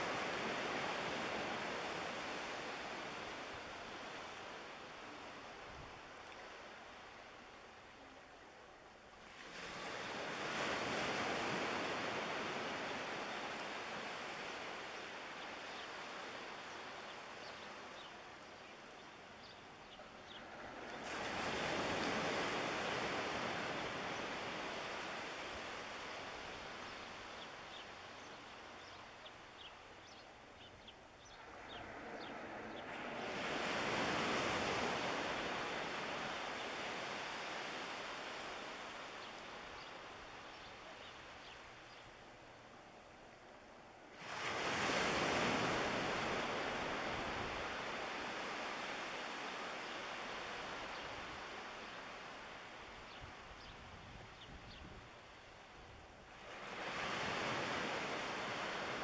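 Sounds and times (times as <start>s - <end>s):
surf washing up a beach: 0.0s - 59.0s.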